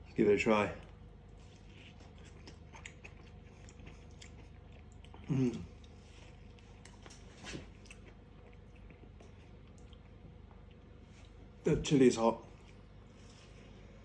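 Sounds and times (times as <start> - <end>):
man chewing food: 0.8 - 11.7, 12.4 - 14.0.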